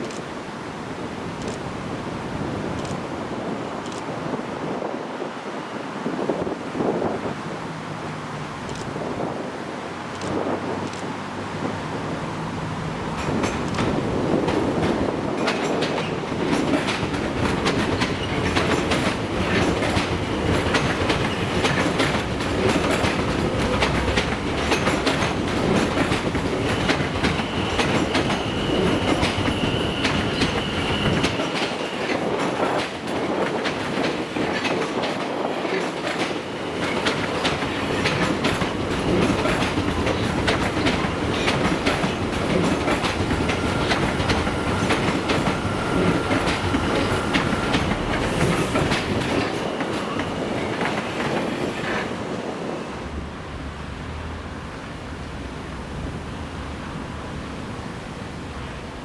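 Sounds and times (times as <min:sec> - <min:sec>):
train wheels clattering on rails: 0:10.0 - 0:59.0.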